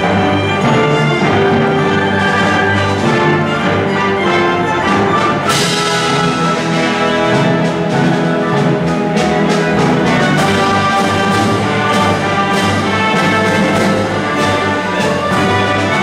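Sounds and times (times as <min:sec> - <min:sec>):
orchestra playing: 0:00.0 - 0:16.0.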